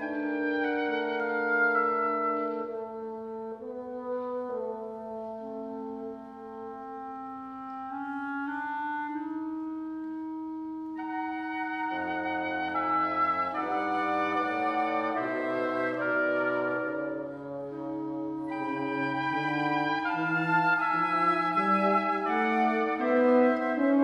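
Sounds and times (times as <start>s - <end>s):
wind quintet playing chords: 0.0s - 24.0s.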